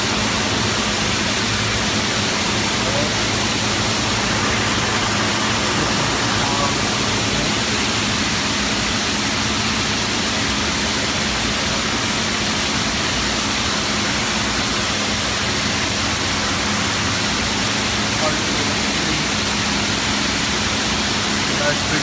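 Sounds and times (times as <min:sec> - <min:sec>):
low steady hum: 0:00.0 - 0:21.2
cooling tower rushing noise: 0:00.0 - 0:22.0.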